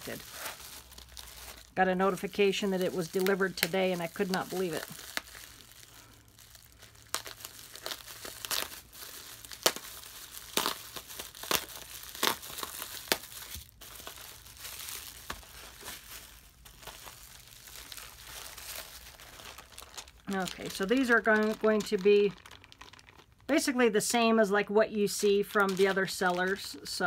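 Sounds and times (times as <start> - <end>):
bubble wrap crinkling: 0.0 - 27.0.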